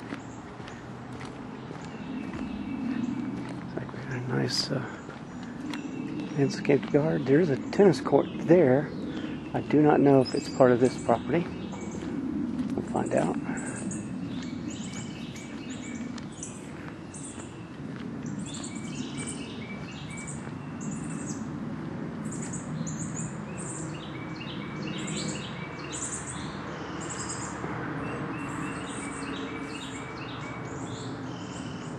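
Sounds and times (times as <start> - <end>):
small birds chirping: 0.0 - 21.6, 22.2 - 31.9.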